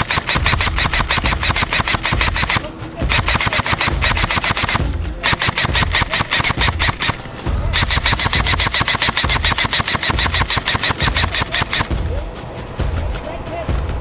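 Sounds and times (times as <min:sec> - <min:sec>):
airsoft guns firing bursts: 0:00.0 - 0:12.2.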